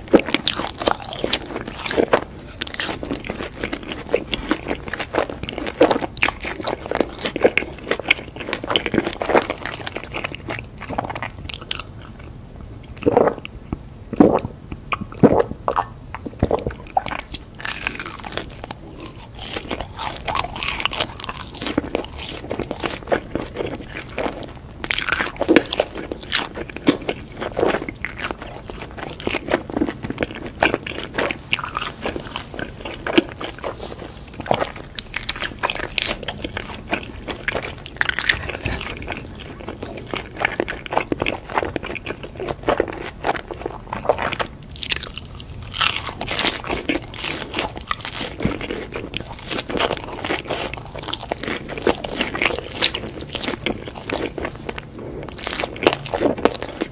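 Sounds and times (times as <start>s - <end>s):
crunchy food chewing: 0.0s - 56.9s.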